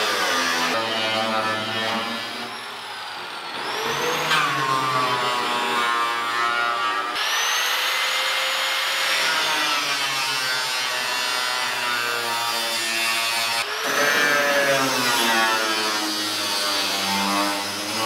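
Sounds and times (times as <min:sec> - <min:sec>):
angle grinder cutting metal: 0:00.0 - 0:18.0.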